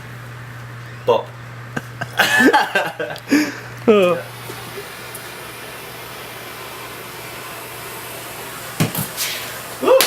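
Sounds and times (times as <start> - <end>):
fan whirring: 0.0 - 10.0.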